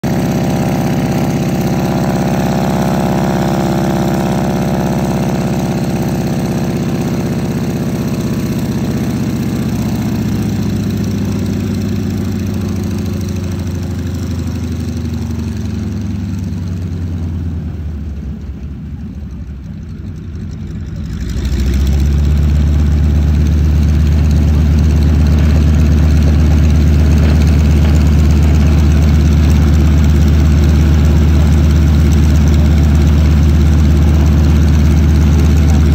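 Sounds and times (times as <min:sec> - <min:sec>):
radial aircraft engine running: 0:00.0 - 0:35.9.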